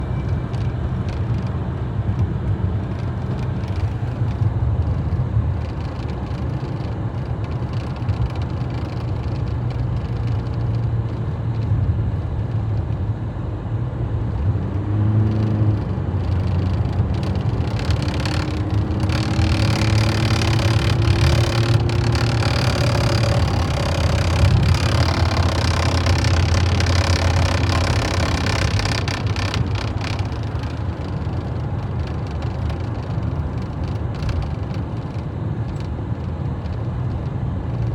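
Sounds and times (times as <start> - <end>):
car engine low rumble: 0.0 - 37.9.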